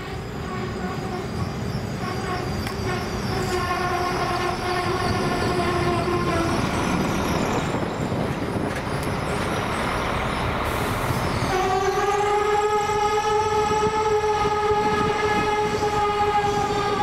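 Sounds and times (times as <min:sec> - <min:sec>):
train wheels and engine rolling: 0:00.0 - 0:17.0
train whine: 0:00.0 - 0:17.0.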